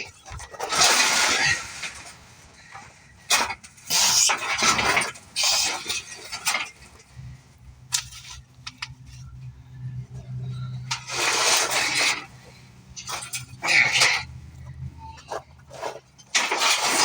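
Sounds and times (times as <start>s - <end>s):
metal clanks and scrapes: 0.0s - 7.2s, 7.9s - 17.0s.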